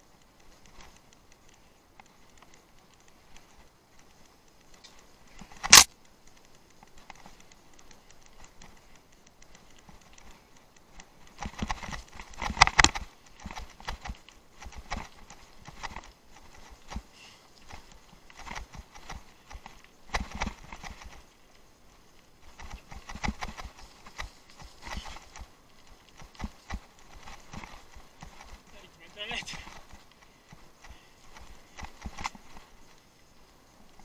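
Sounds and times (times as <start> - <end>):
faint scattered ticks: 0.0 - 34.0.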